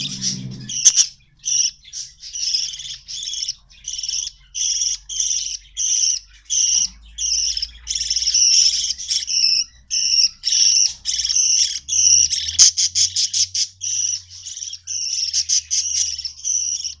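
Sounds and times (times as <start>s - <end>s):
budgerigars calling: 0.0s - 17.0s.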